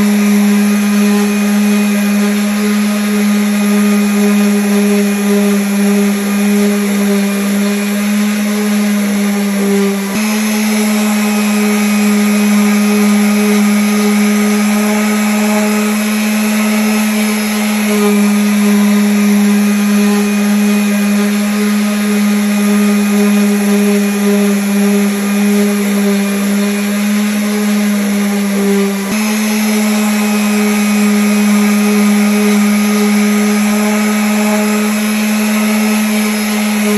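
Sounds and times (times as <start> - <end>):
electric sander on wood: 0.0 - 36.9.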